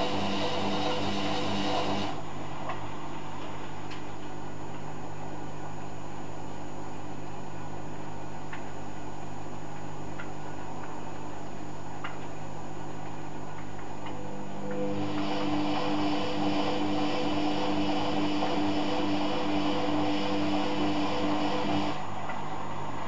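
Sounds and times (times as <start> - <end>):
washing machine drum whirring: 0.0 - 5.2, 8.4 - 23.0
low hum: 0.0 - 23.0.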